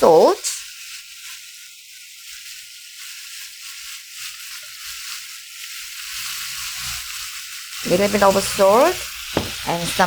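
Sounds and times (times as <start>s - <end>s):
pork sizzling in a frying pan: 0.0s - 10.0s.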